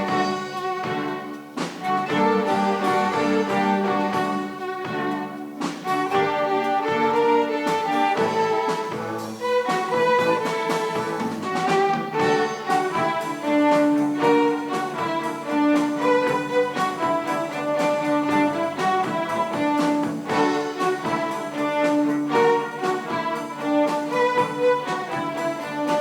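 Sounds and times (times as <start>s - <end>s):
bowed strings melody: 0.0s - 26.0s.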